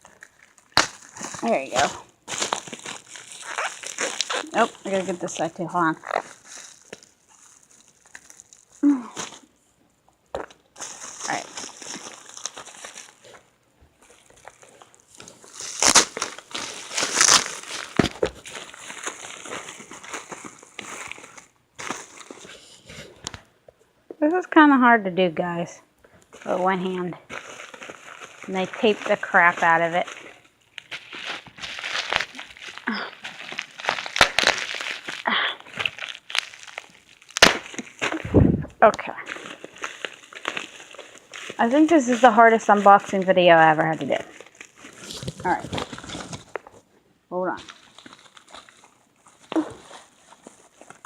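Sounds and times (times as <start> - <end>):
plastic packaging crinkling: 0.0 - 9.6, 10.3 - 23.5, 26.1 - 46.9, 47.6 - 51.0.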